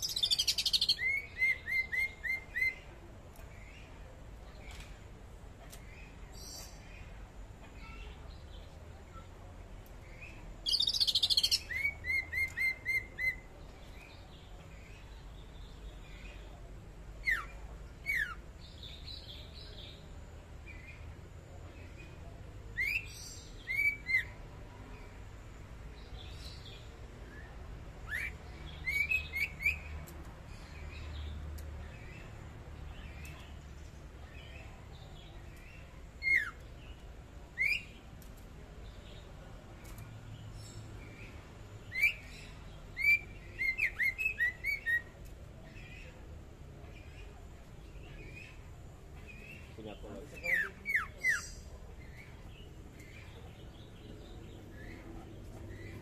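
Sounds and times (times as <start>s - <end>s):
bird singing: 0.0s - 3.9s, 10.0s - 16.6s, 17.2s - 25.2s, 26.0s - 38.1s, 38.8s - 56.0s.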